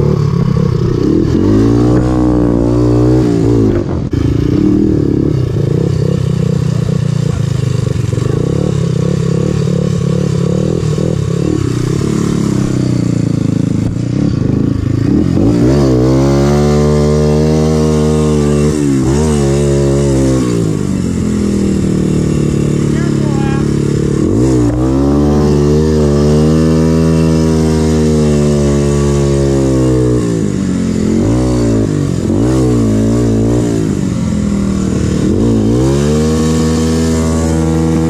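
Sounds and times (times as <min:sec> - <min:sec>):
quad engine revving: 0:00.0 - 0:38.0.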